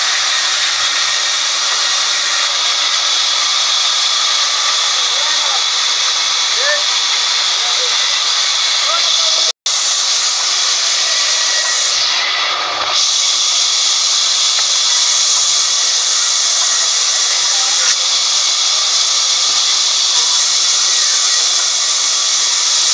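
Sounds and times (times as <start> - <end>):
band saw cutting timber: 0.0 - 22.9.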